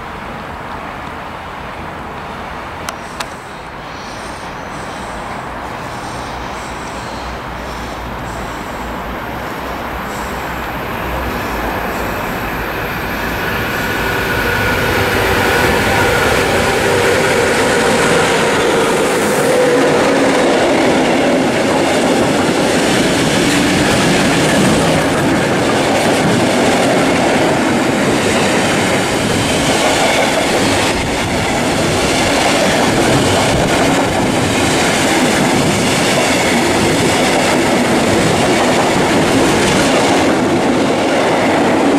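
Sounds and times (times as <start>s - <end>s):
train passing: 0.0s - 41.9s.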